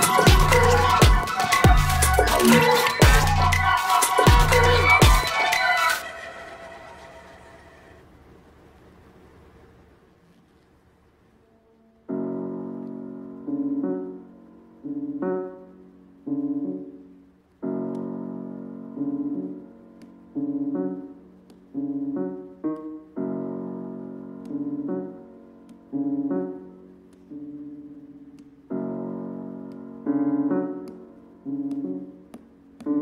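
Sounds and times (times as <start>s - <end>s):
piano chords and notes: 0.0s - 8.0s, 11.4s - 33.0s.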